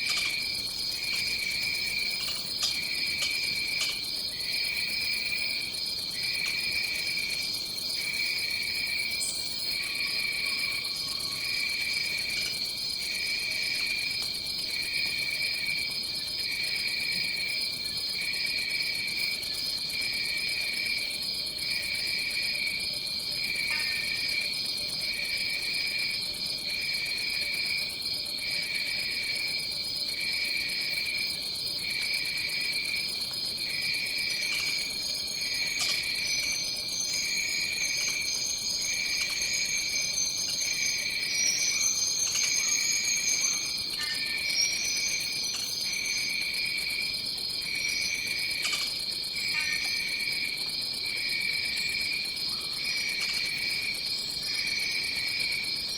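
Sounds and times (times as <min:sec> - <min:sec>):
high-pitched insect trill: 0:00.0 - 0:55.9
lower insect trill: 0:00.0 - 0:55.9.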